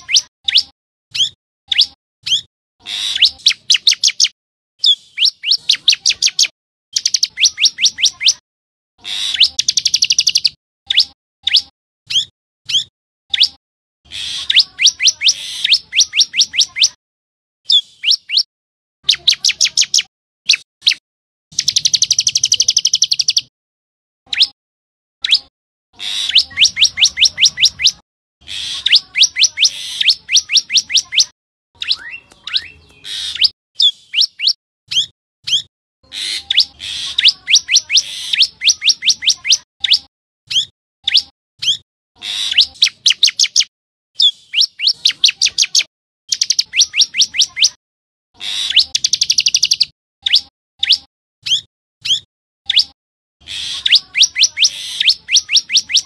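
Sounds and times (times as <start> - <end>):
bird singing rapid high chirps: 0.0 - 8.4, 9.1 - 17.0, 17.7 - 23.5, 24.3 - 24.6, 25.2 - 47.8, 48.4 - 56.0.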